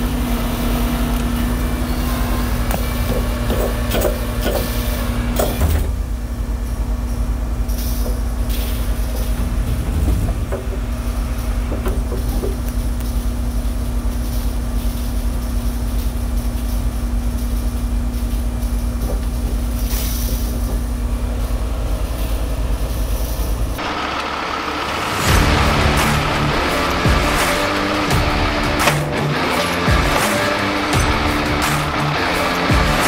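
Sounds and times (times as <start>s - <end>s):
diesel engine drone: 0.0s - 33.0s
hydraulic whine: 0.0s - 33.0s.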